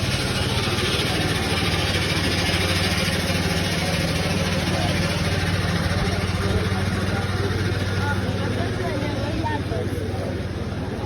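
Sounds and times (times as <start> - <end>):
engine humming steadily: 0.0 - 11.0
street noise hiss: 0.0 - 11.0.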